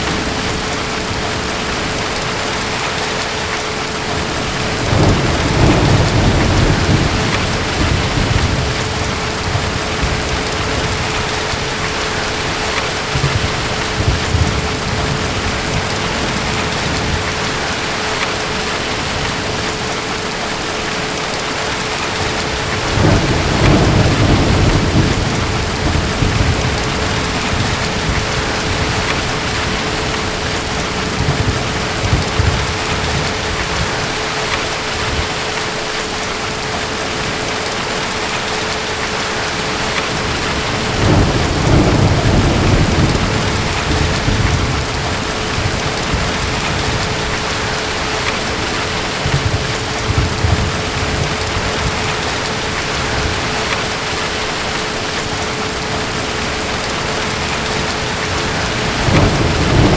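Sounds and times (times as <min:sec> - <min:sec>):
steady rain: 0:00.0 - 0:59.9
distant thunder rolling: 0:04.0 - 0:20.0, 0:22.1 - 0:35.4, 0:39.8 - 0:54.1, 0:55.2 - 0:59.9.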